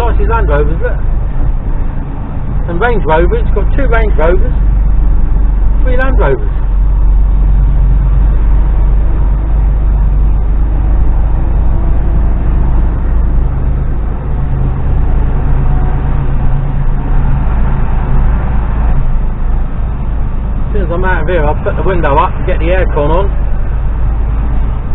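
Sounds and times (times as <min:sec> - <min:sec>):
diesel lorry engine running: 0:00.0 - 0:24.9.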